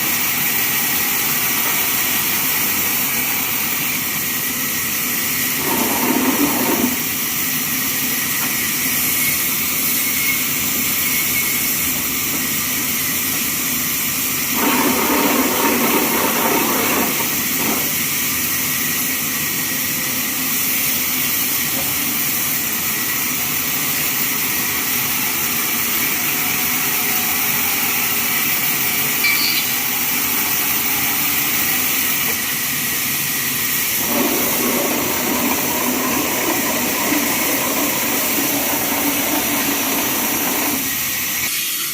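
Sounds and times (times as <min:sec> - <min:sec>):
band sawmill running: 0:00.0 - 0:41.9.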